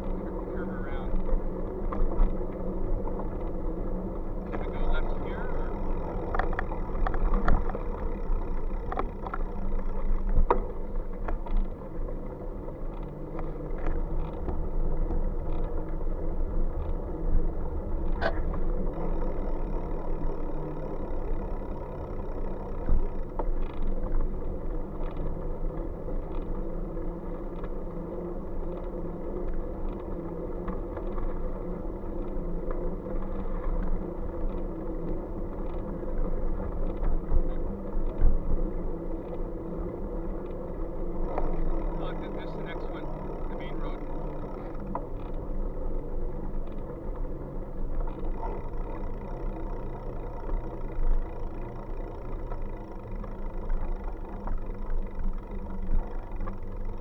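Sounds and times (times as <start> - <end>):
bike riding rumble: 0.0 - 57.0.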